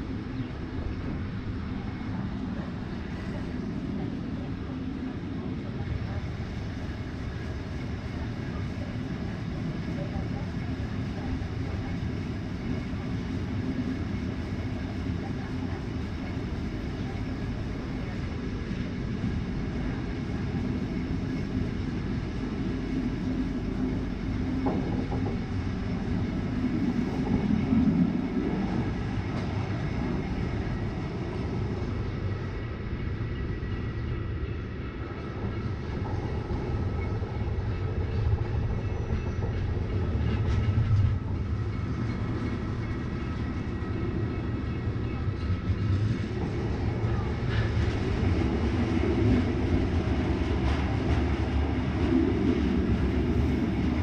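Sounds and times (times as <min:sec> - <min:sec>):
wheels rumbling on rails: 0:00.0 - 0:54.0.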